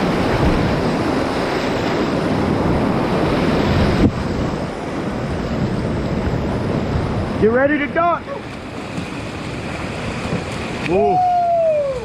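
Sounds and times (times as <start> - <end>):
river whitewater rushing: 0.0 - 12.0
wind buffeting microphone: 0.0 - 12.0.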